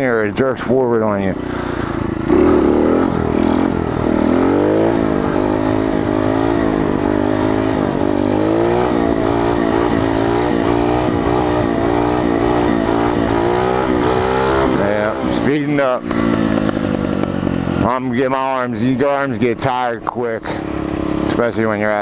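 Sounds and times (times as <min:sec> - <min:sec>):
motorbike engine revving: 0:00.8 - 0:22.0.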